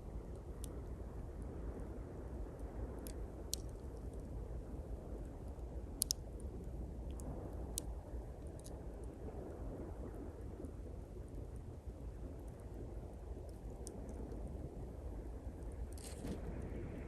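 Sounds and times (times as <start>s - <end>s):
twig fire crackling and popping: 0.1s - 1.5s, 2.4s - 9.2s, 10.6s - 17.0s.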